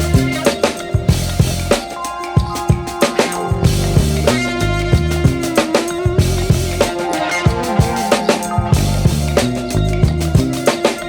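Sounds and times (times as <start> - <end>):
music with drums and bass: 0.0 - 11.0.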